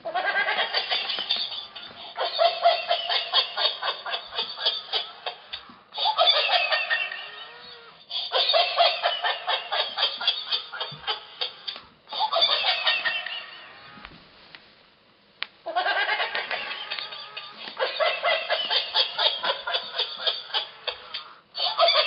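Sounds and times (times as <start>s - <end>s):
toy playing recorded laughter: 0.0s - 14.0s, 15.7s - 22.0s.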